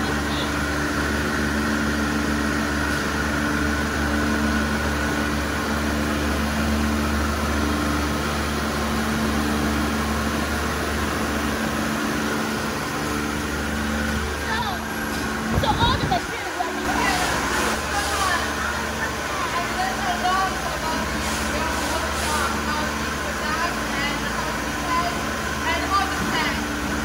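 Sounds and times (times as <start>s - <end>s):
pressure washer motor and pump hum: 0.0s - 27.0s.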